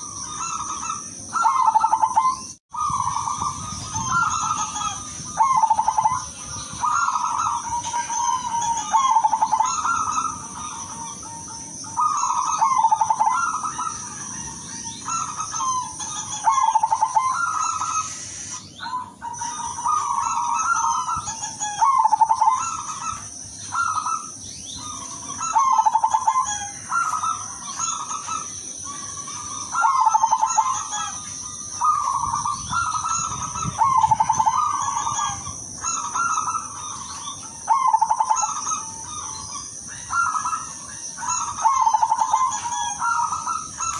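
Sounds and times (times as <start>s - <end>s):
dove cooing in trilled phrases: 0.0s - 18.1s, 18.8s - 43.9s.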